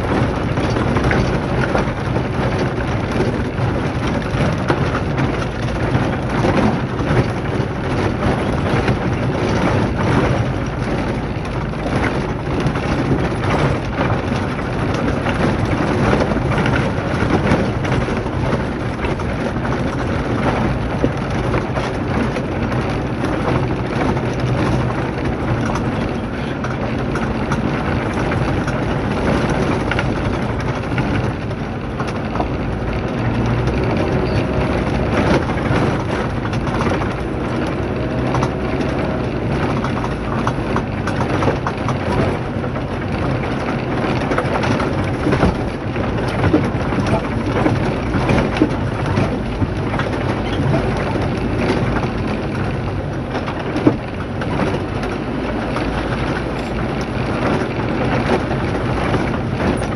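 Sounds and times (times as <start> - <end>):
tyres rattling on gravel: 0.0 - 59.9
vehicle engine running: 0.0 - 59.9.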